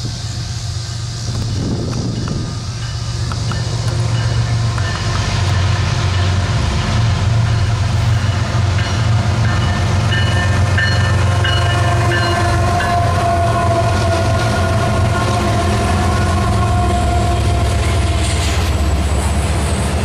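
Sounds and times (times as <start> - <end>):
diesel locomotives droning: 0.0 - 20.0
wheels rumbling on rail: 0.0 - 20.0.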